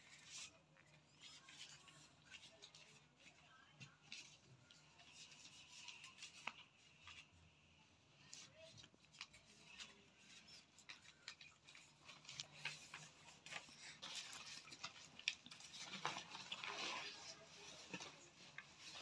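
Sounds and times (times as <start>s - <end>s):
paper rustling: 0.0s - 7.4s, 8.2s - 19.0s.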